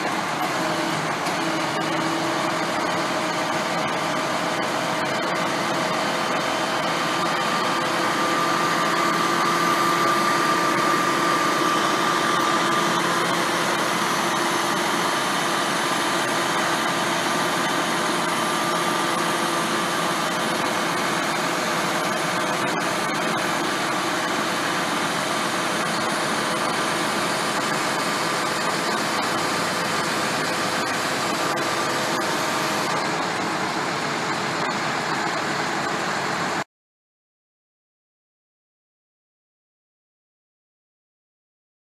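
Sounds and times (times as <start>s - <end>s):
hydraulic whine: 0.0s - 36.6s
truck engine running: 0.0s - 36.6s.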